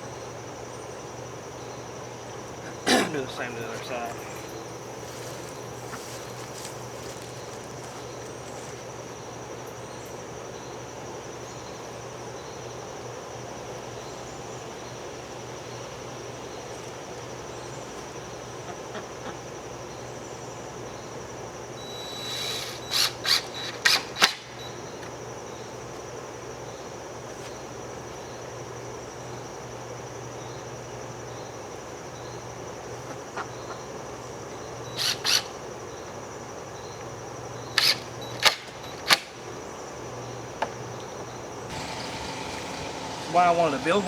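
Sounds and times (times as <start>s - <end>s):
insect drone: 0.0s - 44.0s.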